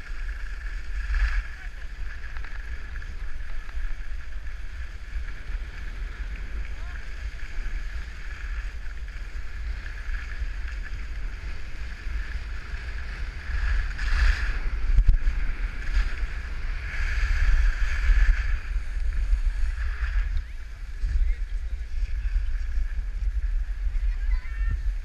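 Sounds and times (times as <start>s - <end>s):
skis sliding on snow: 0.0s - 25.0s
wind buffeting microphone: 0.0s - 25.0s.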